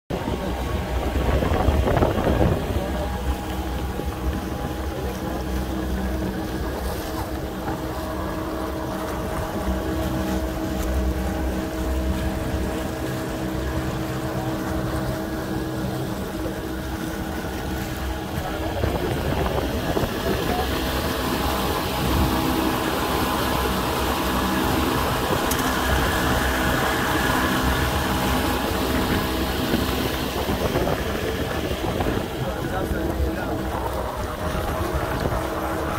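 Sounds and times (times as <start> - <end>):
wind gust on microphone: 0.1 - 9.8, 10.4 - 35.9
outboard motor running: 0.1 - 35.9.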